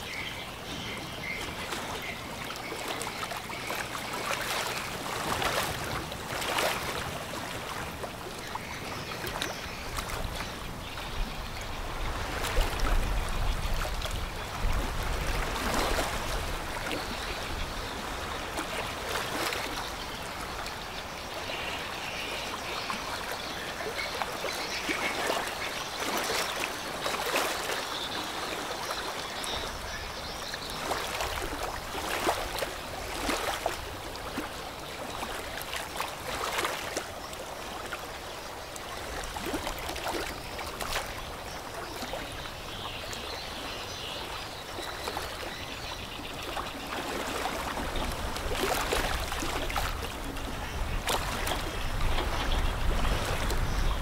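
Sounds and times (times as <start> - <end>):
river water lapping at bank: 0.0 - 54.0.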